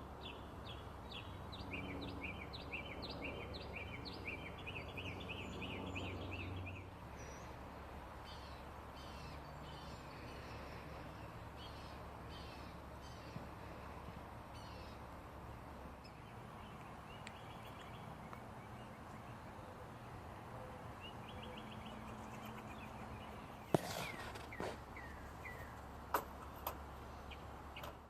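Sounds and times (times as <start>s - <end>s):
songbirds trilling and chirping: 0.0s - 28.0s.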